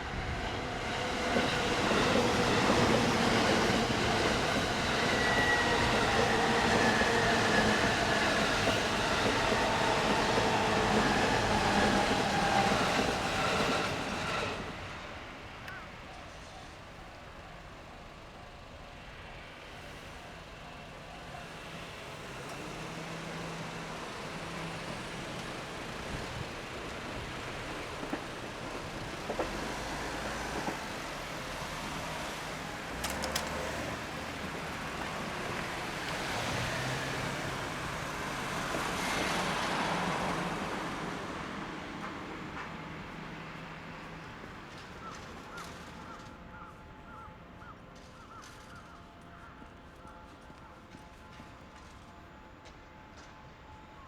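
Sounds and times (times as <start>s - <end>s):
electric train wheels rumbling: 0.0s - 54.0s.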